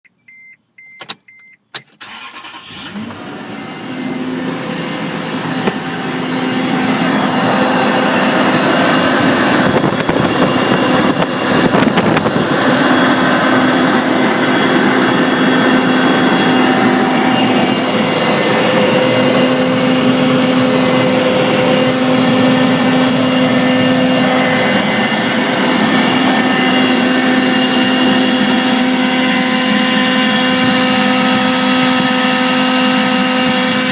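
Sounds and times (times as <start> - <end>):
engine idling: 2.0 - 33.9
air pump whirring: 4.5 - 33.9.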